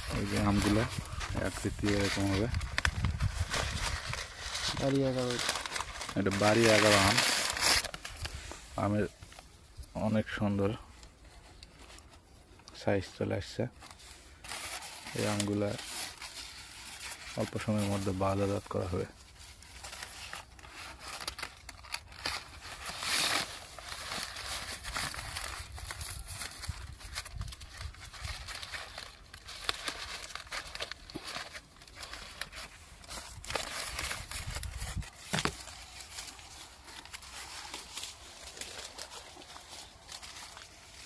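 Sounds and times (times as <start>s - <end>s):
plastic bag crinkling: 0.0s - 10.8s, 11.4s - 41.0s.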